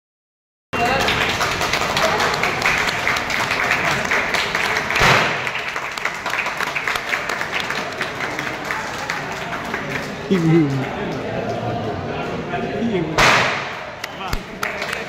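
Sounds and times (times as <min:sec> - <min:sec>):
crowd clapping: 0:00.8 - 0:12.1, 0:13.8 - 0:15.0.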